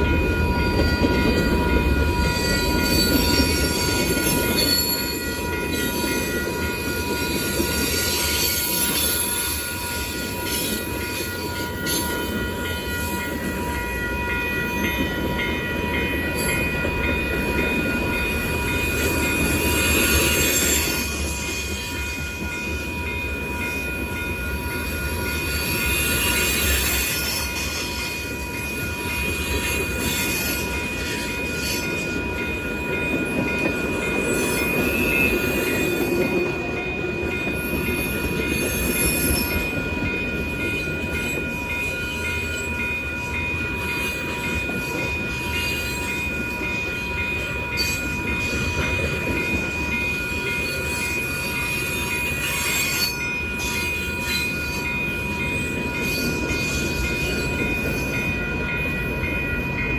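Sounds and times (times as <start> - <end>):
freight train rumbling past: 0.0 - 59.9
steel wheels squealing on rail: 0.0 - 59.9.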